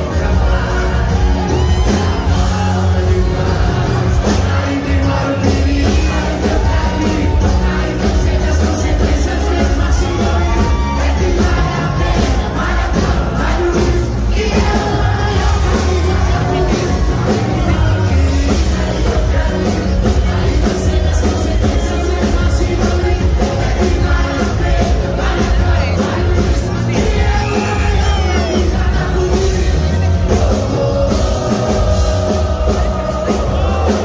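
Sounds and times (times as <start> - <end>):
band with accordion guitars drums: 0.0 - 34.0
crowd noise: 0.0 - 34.0
man singing: 0.0 - 34.0.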